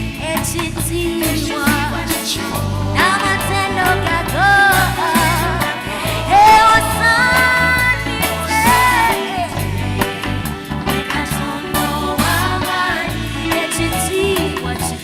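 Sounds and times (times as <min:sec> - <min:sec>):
live gospel band music: 0:00.0 - 0:15.0.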